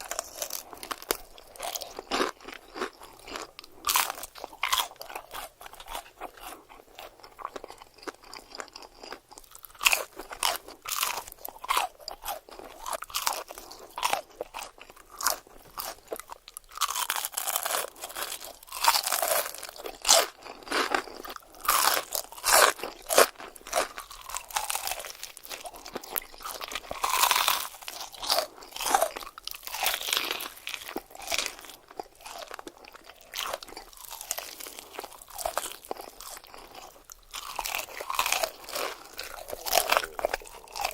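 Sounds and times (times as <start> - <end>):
crunchy eating: 0.0 - 40.9.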